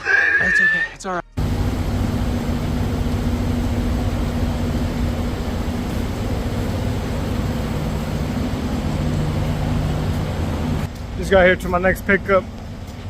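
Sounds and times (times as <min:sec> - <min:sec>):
truck engine droning: 0:01.4 - 0:13.0.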